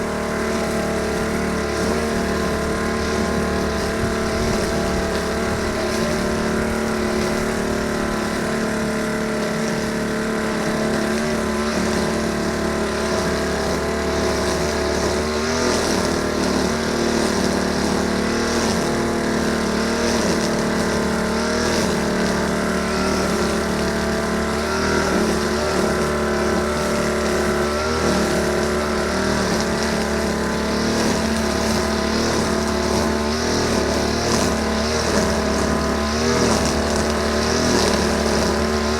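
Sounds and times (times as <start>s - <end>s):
grass cutter engine running: 0.0s - 38.9s.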